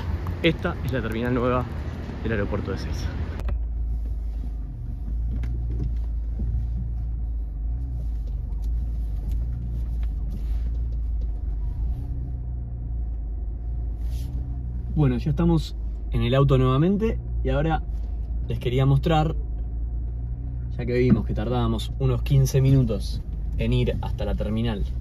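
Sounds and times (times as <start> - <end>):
car engine running inside cabin: 0.0 - 25.0.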